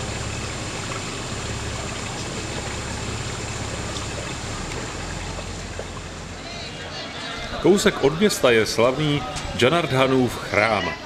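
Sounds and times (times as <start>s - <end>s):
water washing: 0.0s - 10.6s
boat engine humming: 0.0s - 11.0s.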